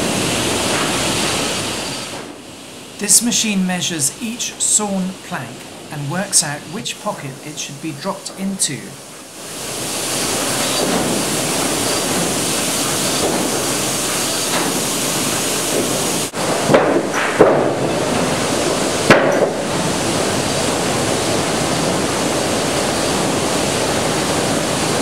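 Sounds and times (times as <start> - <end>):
sawmill machinery noise: 0.0 - 25.0.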